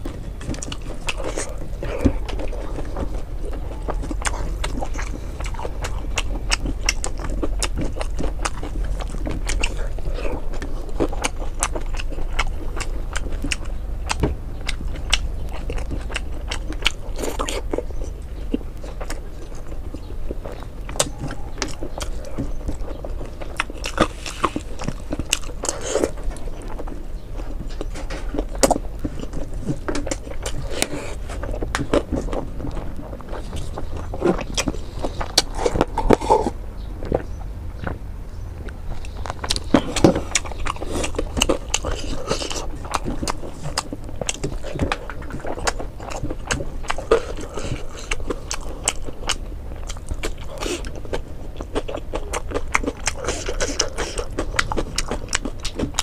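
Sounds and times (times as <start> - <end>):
chewing and lip smacking: 0.0 - 56.0
low hum: 0.0 - 56.0.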